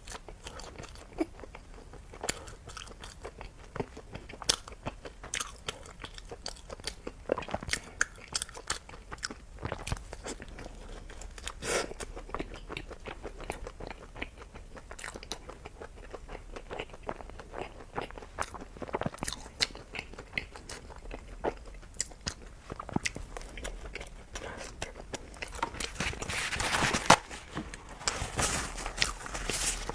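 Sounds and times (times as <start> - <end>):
chewing and crunching food: 0.0 - 29.9.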